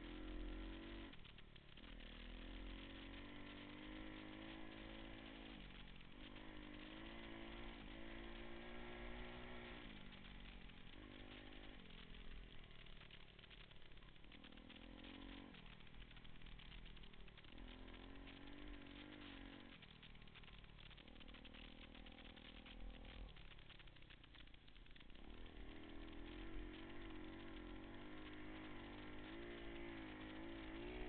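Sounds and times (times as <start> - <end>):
pit bike engine revving: 0.0 - 31.0.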